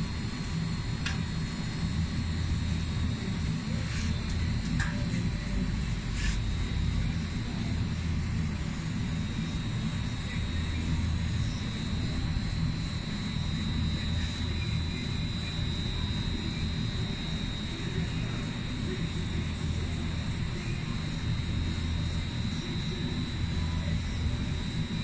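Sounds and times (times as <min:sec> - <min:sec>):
electric motor hum and whine: 0:00.0 - 0:25.0.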